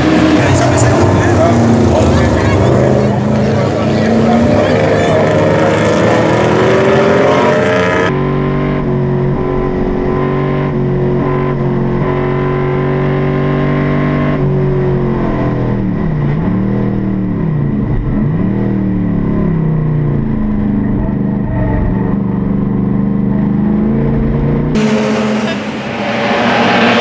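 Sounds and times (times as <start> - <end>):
racing car engine revving: 0.0 - 27.0.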